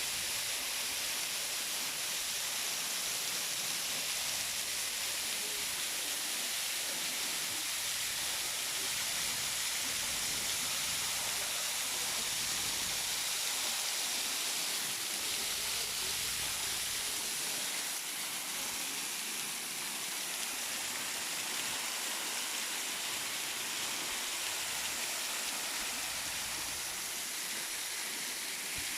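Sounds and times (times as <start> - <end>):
waterfall rushing: 0.1 - 28.9.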